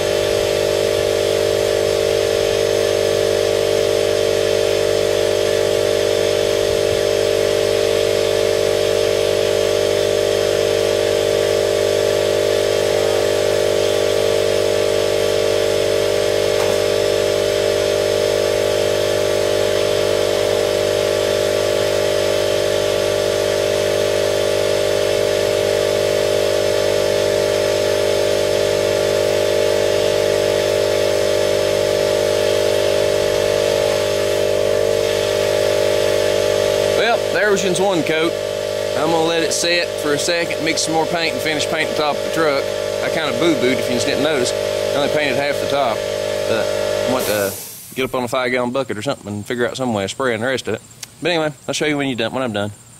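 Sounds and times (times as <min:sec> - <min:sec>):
air compressor motor humming: 0:00.0 - 0:52.9
compressor hiss: 0:00.0 - 0:52.9.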